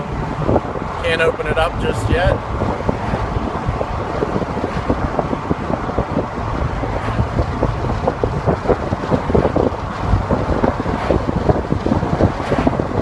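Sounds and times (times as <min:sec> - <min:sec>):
car engine and road noise: 0:00.0 - 0:13.0
wind buffeting microphone: 0:00.0 - 0:13.0.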